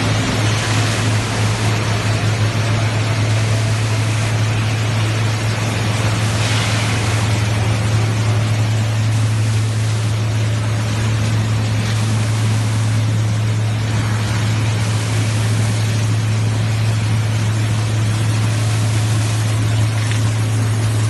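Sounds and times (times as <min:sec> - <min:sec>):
electric motors humming: 0:00.0 - 0:21.0
water churning: 0:00.0 - 0:21.0.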